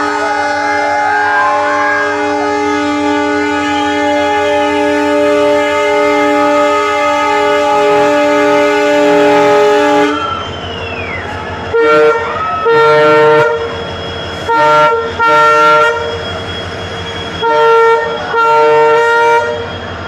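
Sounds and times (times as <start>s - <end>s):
train horn: 0.0s - 10.5s, 11.7s - 19.8s.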